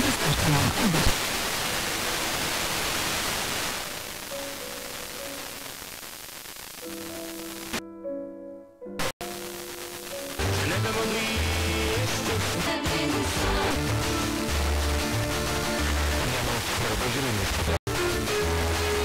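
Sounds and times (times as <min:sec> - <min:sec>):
faint radio music: 0:00.0 - 0:07.8, 0:09.0 - 0:19.0
radio receiver hiss: 0:00.0 - 0:07.8, 0:09.0 - 0:19.0.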